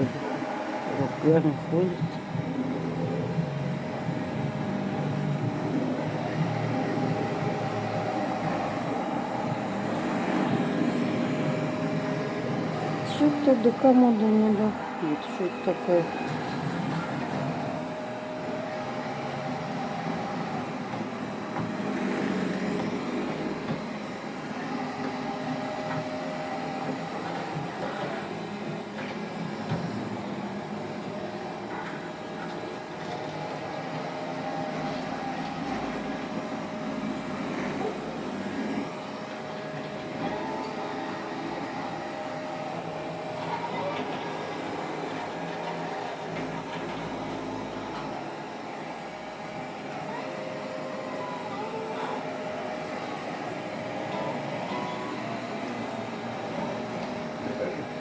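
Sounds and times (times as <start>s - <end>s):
robot vacuum cleaner running: 0.0s - 58.0s.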